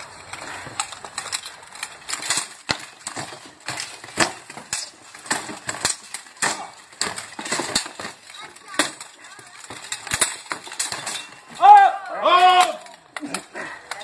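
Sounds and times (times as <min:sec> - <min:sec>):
swords clashing on armour: 0:02.0 - 0:14.0.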